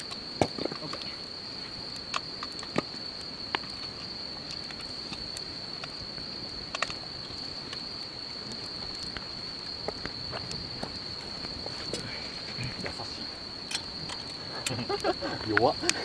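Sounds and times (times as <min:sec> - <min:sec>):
night insects trilling: 0:00.0 - 0:16.0
wood fire crackling and popping: 0:00.0 - 0:16.0.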